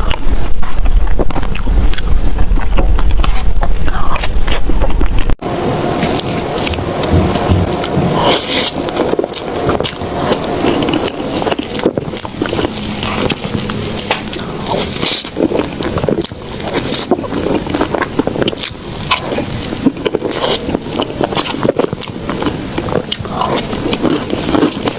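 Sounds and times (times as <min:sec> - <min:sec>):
wet chewing sounds: 0:00.0 - 0:24.9.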